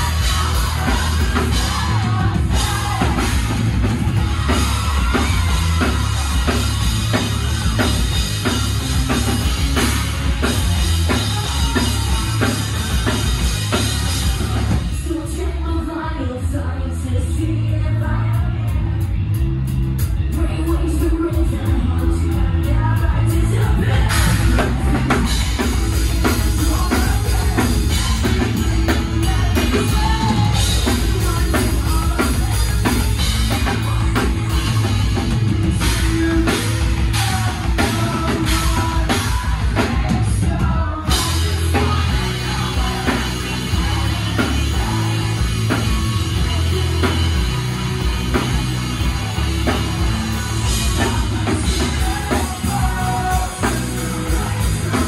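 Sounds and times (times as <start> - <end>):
pounding drum kit: 0.0 - 15.9, 17.2 - 55.0
person singing: 0.0 - 19.4, 20.0 - 55.0
electric guitars: 0.0 - 55.0.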